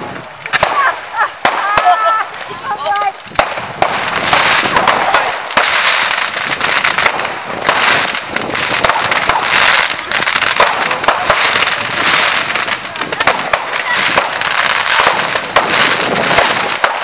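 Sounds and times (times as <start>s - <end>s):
fireworks hissing and crackling: 0.0s - 17.0s
fireworks popping: 0.0s - 17.0s.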